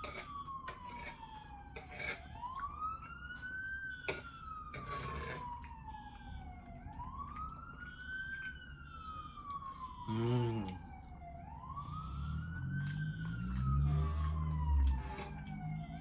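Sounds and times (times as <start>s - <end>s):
emergency siren wailing: 0.0s - 16.0s.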